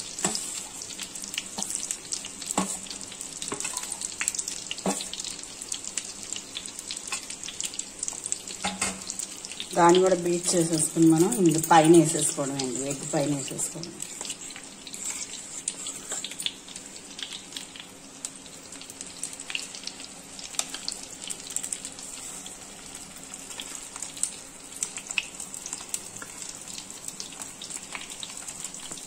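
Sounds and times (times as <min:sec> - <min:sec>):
eggs sizzling in hot oil: 0:00.0 - 0:29.0.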